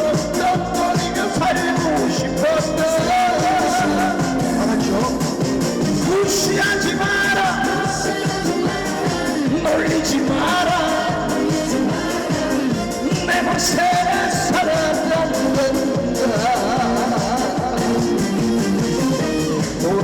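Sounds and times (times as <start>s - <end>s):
trot music over sound system: 0.0s - 20.0s.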